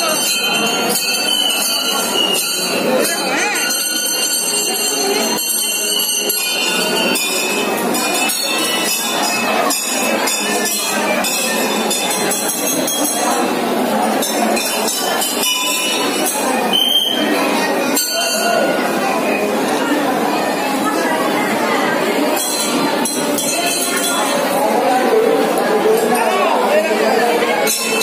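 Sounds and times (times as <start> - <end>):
crowd chatter: 0.0 - 28.0
temple bells ringing: 0.0 - 28.0.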